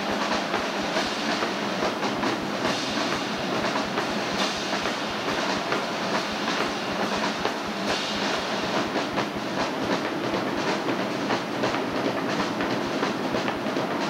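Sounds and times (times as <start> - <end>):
rapid snare drum strokes: 0.0 - 14.0.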